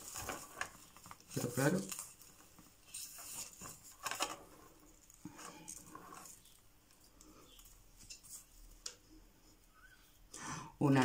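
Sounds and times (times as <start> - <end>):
hands rustling in potting soil: 0.0 - 9.7.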